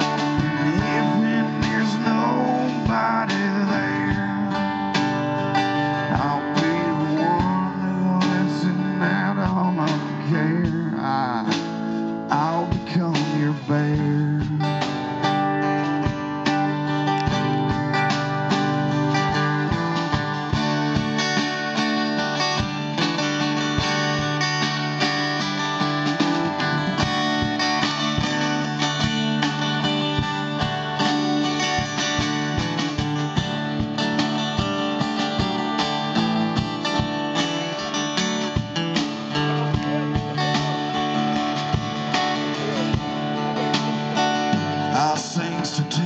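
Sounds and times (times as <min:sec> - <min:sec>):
acoustic guitar playing: 0:00.0 - 0:46.0.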